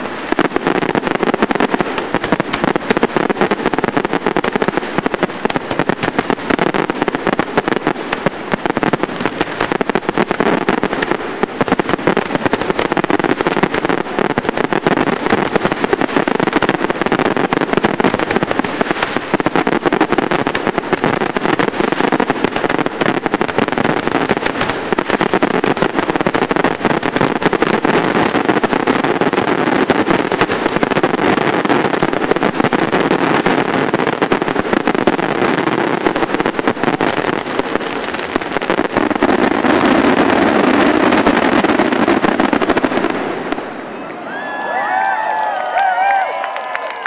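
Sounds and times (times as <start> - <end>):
fireworks bangs and crackle: 0.0 - 44.0.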